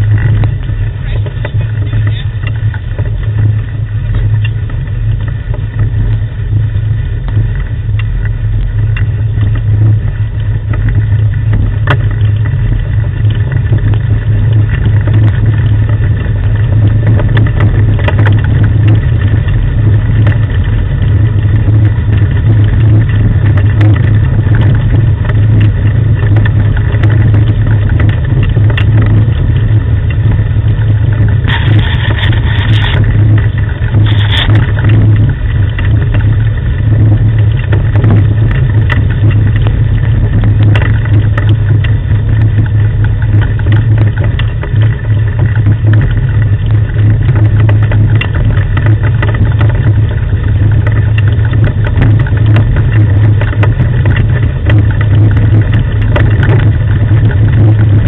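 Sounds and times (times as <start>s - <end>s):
wheeled rig rumbling on dirt track: 0.0s - 58.0s.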